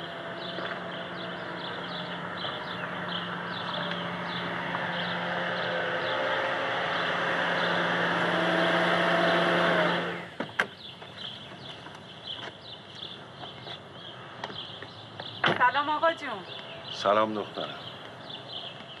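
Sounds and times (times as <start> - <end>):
car engine and tyre noise: 0.0 - 15.4.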